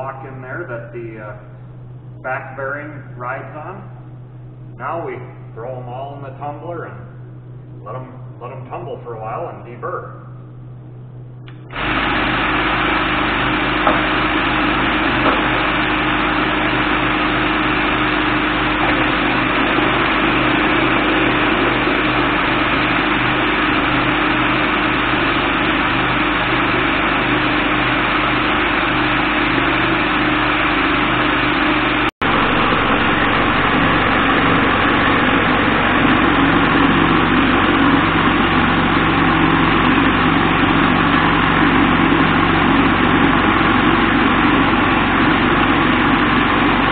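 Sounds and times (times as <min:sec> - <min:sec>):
vibratory tumbler humming: 0:00.0 - 0:46.9.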